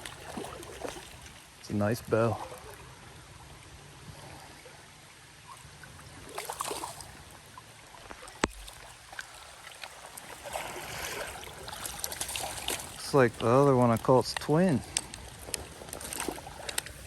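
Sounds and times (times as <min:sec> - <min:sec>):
creek water trickling: 0:00.0 - 0:17.0
water splashes: 0:00.0 - 0:17.0.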